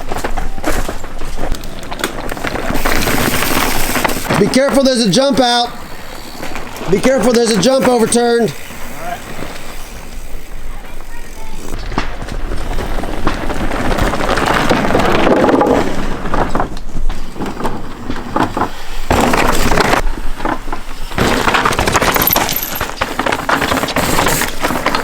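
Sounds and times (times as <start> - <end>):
mountain bike rattling over rocks: 0.0 - 25.0.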